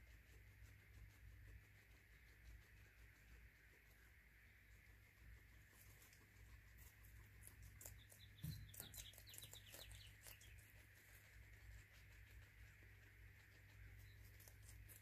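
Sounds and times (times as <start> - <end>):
guinea pigs eating crunching: 0.0 - 15.0.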